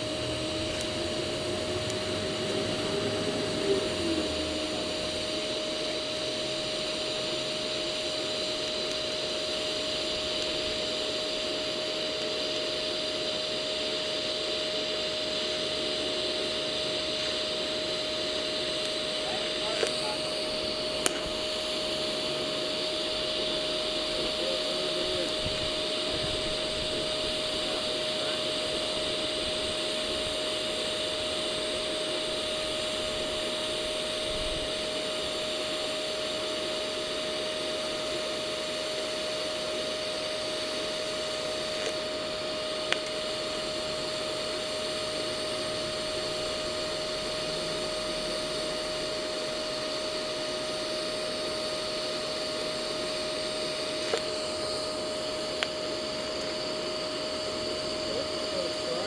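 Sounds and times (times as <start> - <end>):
welder whirring hum with hiss: 0.0 - 59.0.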